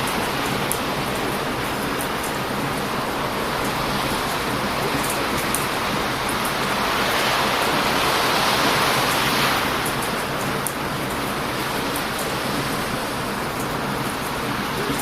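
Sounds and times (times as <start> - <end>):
campfire crackling: 0.0 - 15.0
heavy surf on a beach: 0.0 - 15.0.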